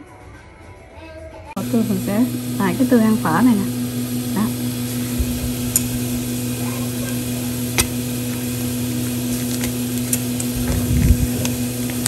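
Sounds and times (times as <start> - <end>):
low machine hum: 1.6 - 12.0.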